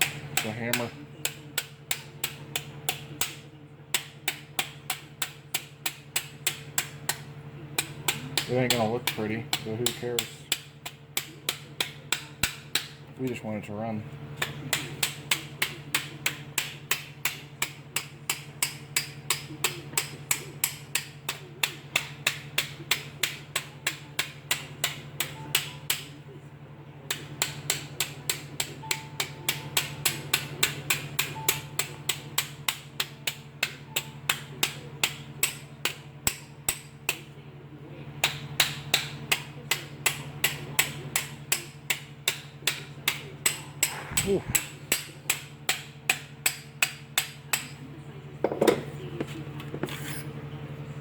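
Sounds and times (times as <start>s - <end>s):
hammer tapping metal tube: 0.0s - 13.4s, 14.4s - 26.2s, 27.1s - 37.3s, 38.2s - 47.8s.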